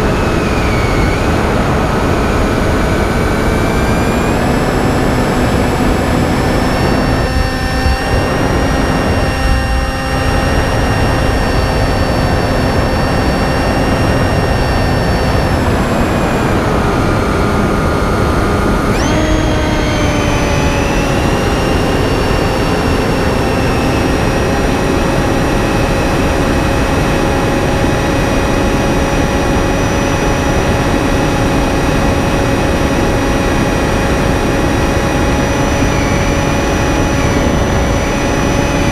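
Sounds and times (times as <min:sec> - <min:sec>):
electric motor propeller whining: 0:00.0 - 0:38.9.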